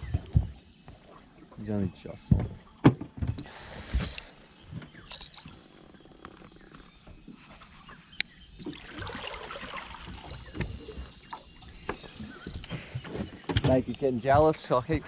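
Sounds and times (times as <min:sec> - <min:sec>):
water against boat hull: 0:00.0 - 0:15.0.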